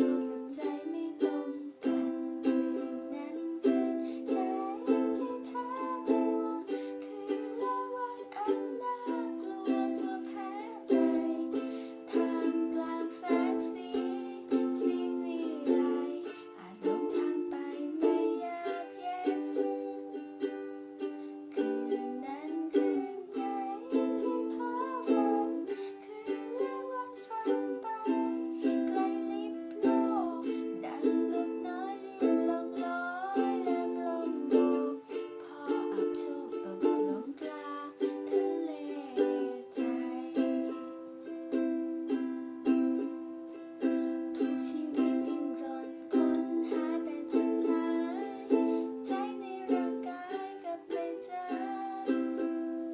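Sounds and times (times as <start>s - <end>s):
strummed string instrument: 0.0s - 52.9s.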